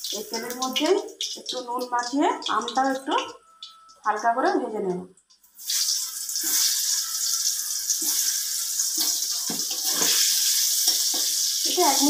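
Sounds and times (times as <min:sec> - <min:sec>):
oil popping and crackling: 0:00.0 - 0:04.6, 0:05.3 - 0:12.0
mango slices sizzling in oil: 0:00.0 - 0:04.7, 0:05.4 - 0:12.0.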